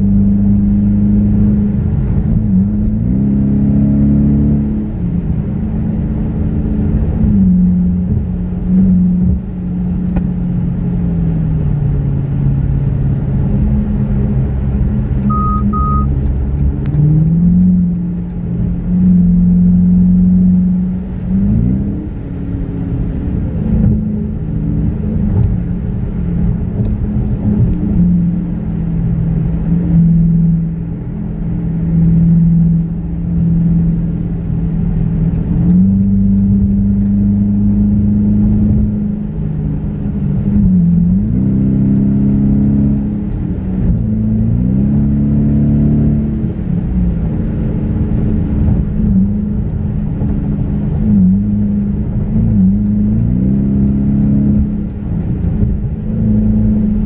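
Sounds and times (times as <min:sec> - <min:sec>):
car engine droning: 0:00.0 - 0:57.0
tyre and road noise: 0:00.0 - 0:57.0.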